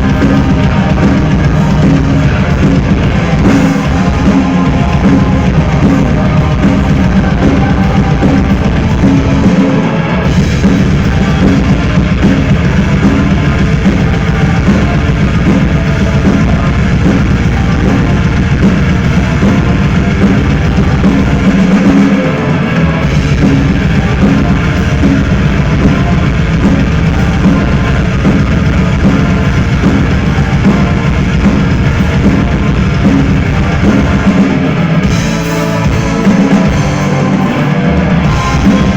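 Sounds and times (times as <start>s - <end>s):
drum kit: 0.0s - 38.9s
heavy metal band playing live: 0.0s - 38.9s.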